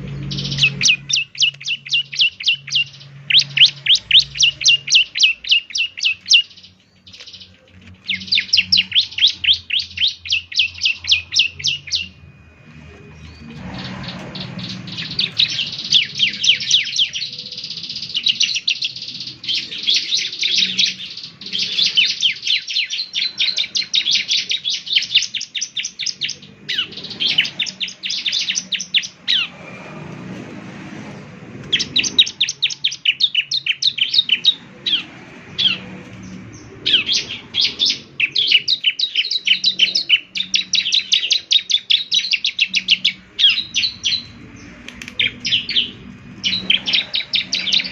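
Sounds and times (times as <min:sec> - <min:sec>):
bird chattering song: 0:00.0 - 0:29.7, 0:31.6 - 0:47.9.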